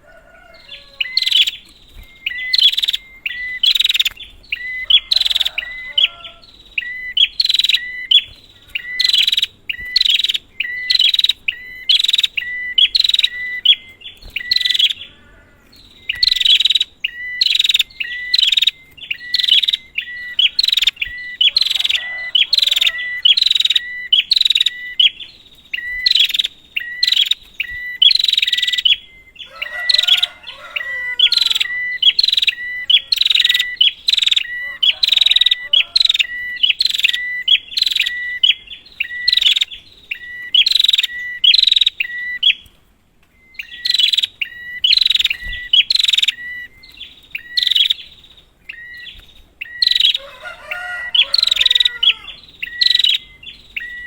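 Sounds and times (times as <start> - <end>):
bird sharp chirps: 0.4 - 54.0.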